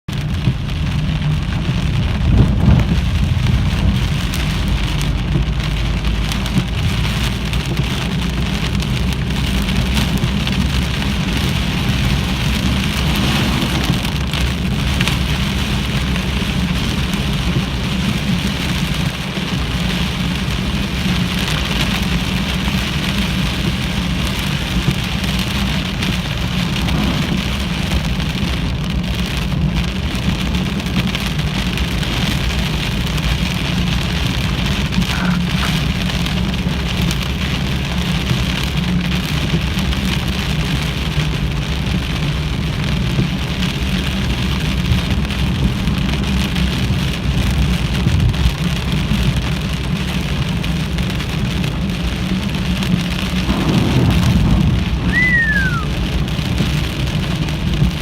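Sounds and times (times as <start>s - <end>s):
low rumble: 0.1s - 50.1s, 51.0s - 58.0s
heavy rain hissing: 0.1s - 58.0s.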